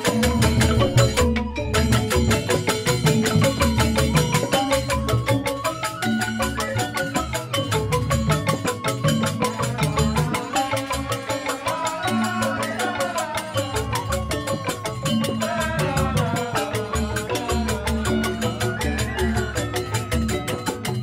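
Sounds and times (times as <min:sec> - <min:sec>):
bamboo xylophones playing: 0:00.0 - 0:21.0.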